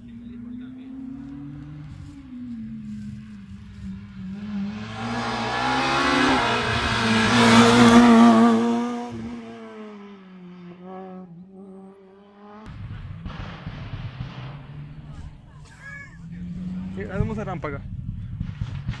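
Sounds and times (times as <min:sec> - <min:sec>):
rally car engine passing by: 0:00.0 - 0:13.3, 0:14.1 - 0:19.0.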